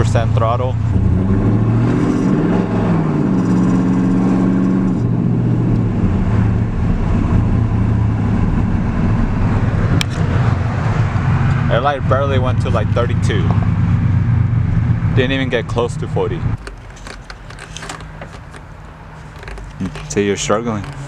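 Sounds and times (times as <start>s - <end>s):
truck engine accelerating: 0.0s - 21.0s.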